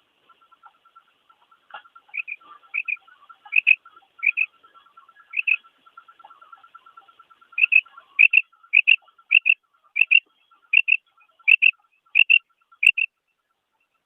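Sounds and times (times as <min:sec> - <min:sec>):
quail two-note calls: 0:00.3 - 0:13.1.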